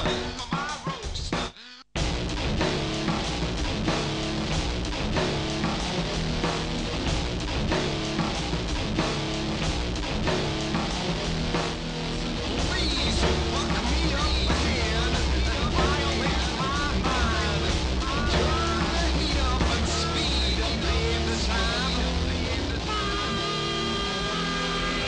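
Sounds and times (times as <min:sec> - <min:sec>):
rock music with guitar and drums: 0:00.0 - 0:25.0.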